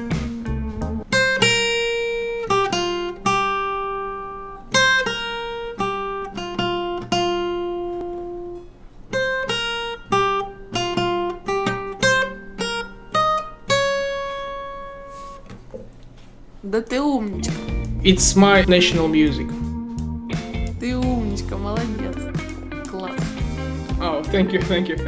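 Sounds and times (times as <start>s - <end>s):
fingerstyle acoustic guitar melody: 0.0s - 16.0s, 17.0s - 25.0s.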